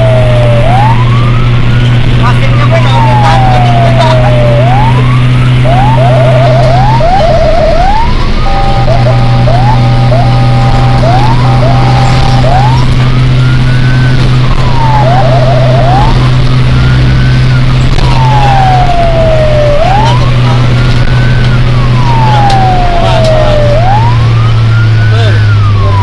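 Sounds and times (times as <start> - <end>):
electronic siren wailing: 0.0 - 26.0
engine and road drone: 0.0 - 26.0
siren yelp: 0.0 - 26.0.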